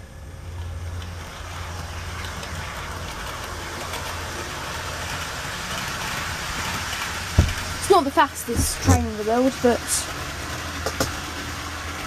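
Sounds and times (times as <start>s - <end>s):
constant low hum: 0.0s - 12.0s
model train whirring on rails: 0.0s - 12.0s.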